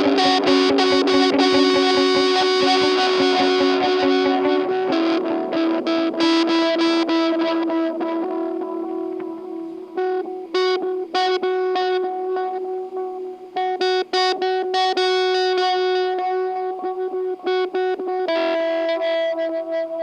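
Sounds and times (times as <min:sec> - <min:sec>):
electric guitar: 0:00.0 - 0:20.0.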